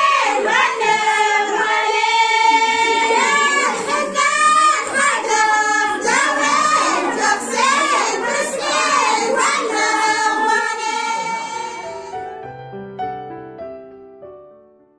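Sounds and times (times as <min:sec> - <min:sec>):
women singing together: 0:00.0 - 0:12.2.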